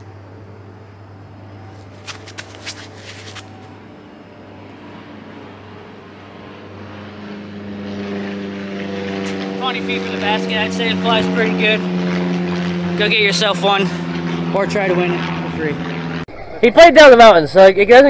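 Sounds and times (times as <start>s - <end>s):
motor engine droning: 0.0s - 16.8s.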